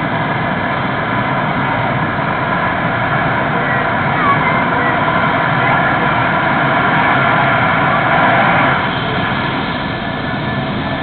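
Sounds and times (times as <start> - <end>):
helicopter turbine whine: 0.0 - 11.0.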